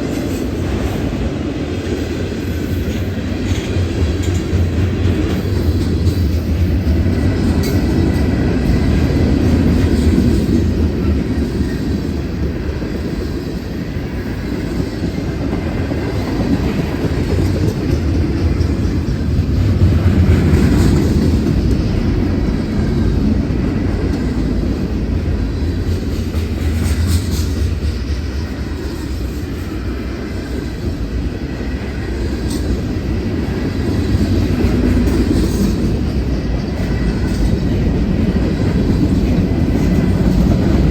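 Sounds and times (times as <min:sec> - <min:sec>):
freight train rumbling past: 0:00.0 - 0:40.9.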